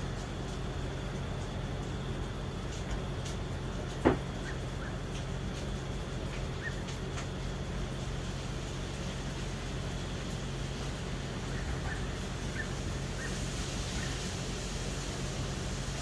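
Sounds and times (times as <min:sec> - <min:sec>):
distant city traffic hum: 0:00.0 - 0:16.0.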